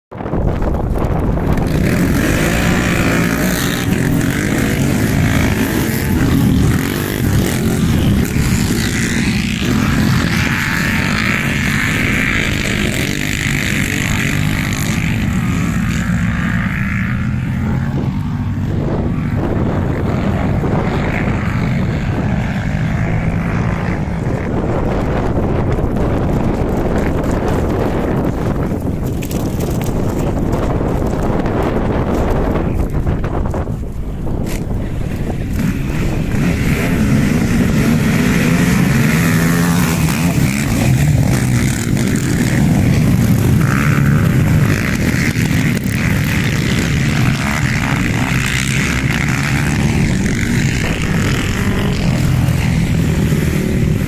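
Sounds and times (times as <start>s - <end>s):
quad bike engine droning: 0.2s - 54.0s.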